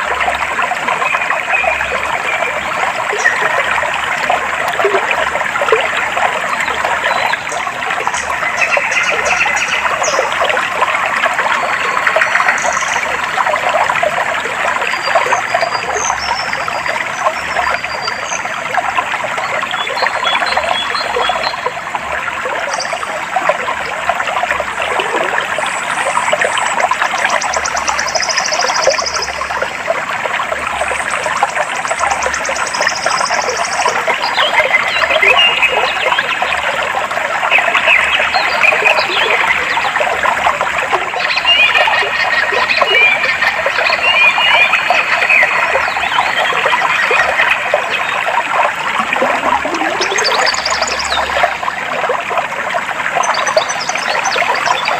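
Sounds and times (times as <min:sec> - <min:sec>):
stream water babbling: 0:00.0 - 0:54.9.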